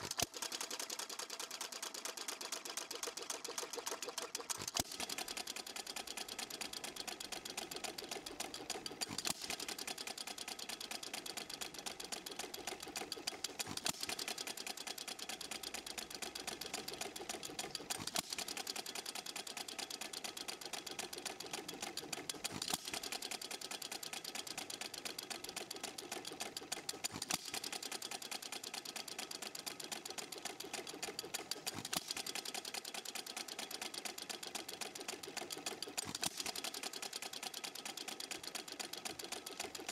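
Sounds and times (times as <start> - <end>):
engine mechanical clatter: 0.0 - 39.9.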